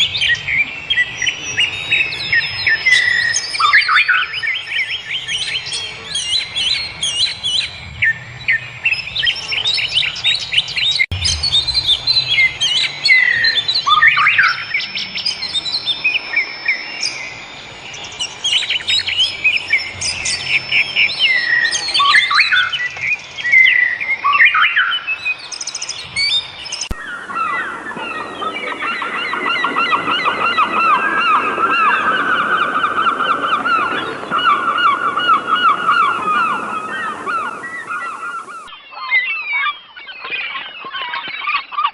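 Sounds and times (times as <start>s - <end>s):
flock of birds calling: 0.0s - 41.9s
wild birds singing: 0.0s - 41.9s.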